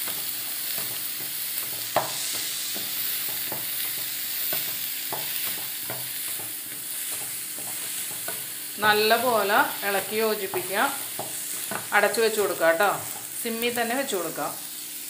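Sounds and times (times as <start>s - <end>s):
spatula scraping and tapping pan: 0.0s - 13.5s
beans sizzling in a pan: 0.0s - 15.0s.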